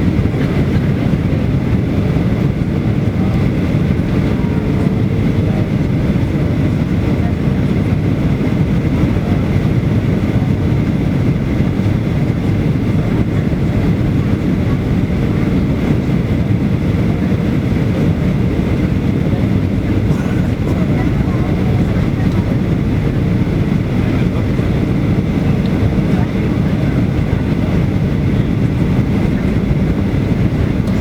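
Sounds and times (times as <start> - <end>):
airliner cabin rush: 0.0 - 31.0
faint high hum: 0.0 - 31.0.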